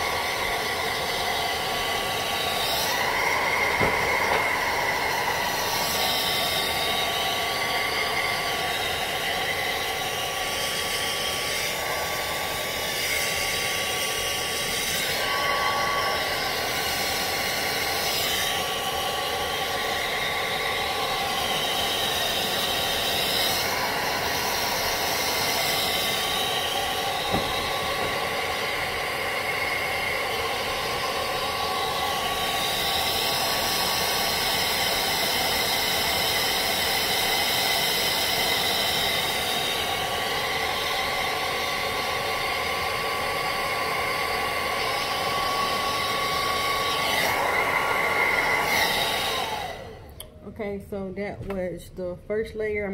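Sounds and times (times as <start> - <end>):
hair dryer blowing: 0.0 - 50.4.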